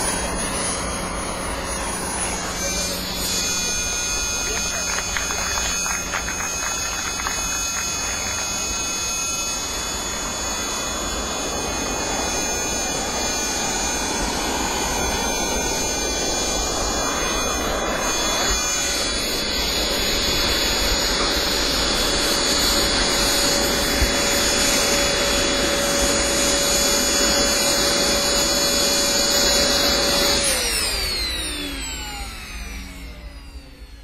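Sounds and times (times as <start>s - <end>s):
jet turbine whining: 0.0s - 34.0s
turbine exhaust rushing: 0.0s - 34.0s.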